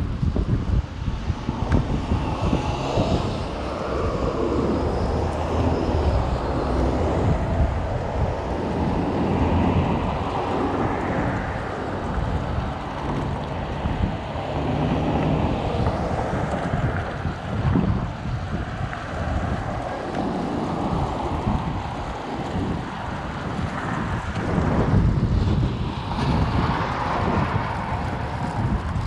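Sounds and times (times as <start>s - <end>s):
car engines and tyres: 0.0s - 29.0s
wind rumbling on microphone: 0.0s - 29.0s.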